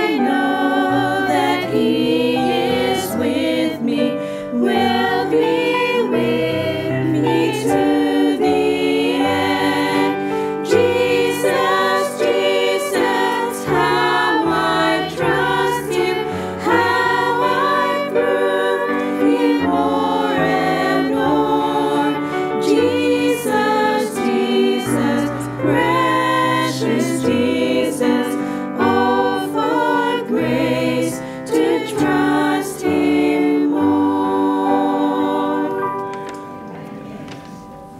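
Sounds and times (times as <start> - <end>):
women singing a hymn: 0.0 - 37.9.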